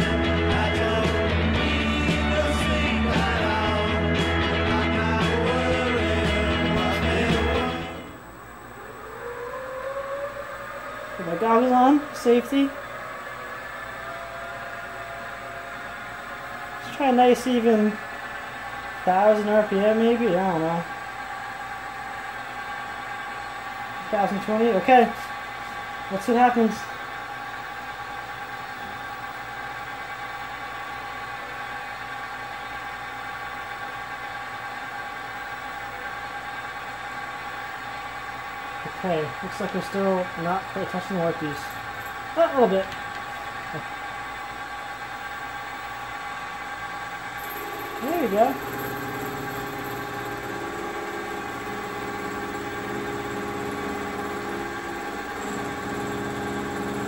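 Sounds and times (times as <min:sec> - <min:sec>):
mill spindle whirring: 0:00.0 - 0:57.0.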